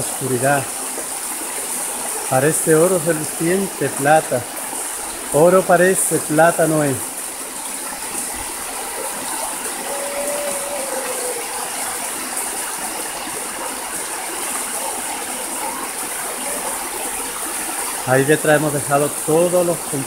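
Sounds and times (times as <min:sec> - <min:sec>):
river water flowing over rocks: 0:00.0 - 0:20.0.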